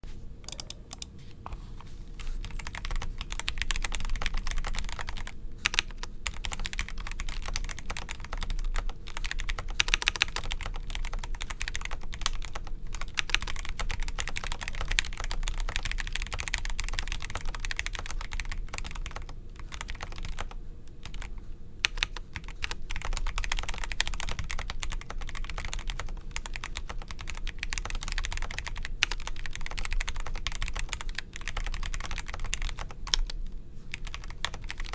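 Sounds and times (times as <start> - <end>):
mechanical keyboard typing: 0.4 - 1.2, 2.2 - 34.9.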